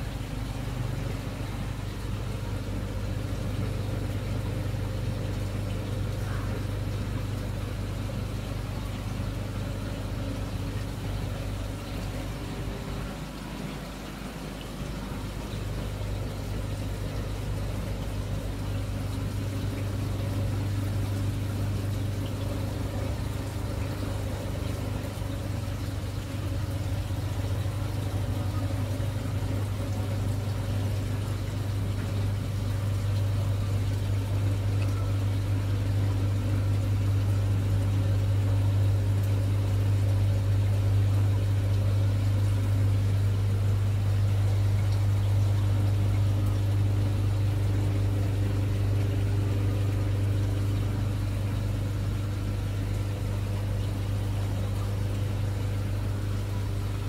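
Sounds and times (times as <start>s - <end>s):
aquarium pumps humming: 0.0s - 57.0s.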